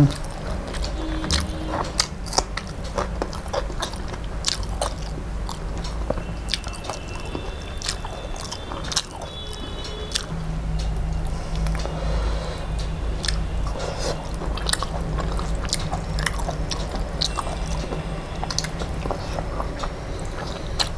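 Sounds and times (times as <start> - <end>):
chewing and wet mouth sounds: 0.0 - 20.9.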